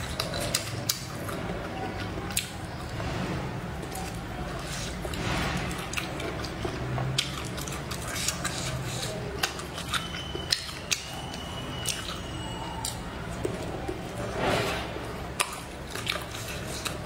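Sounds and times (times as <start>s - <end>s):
chewing sausage: 0.0s - 14.4s, 15.0s - 17.0s.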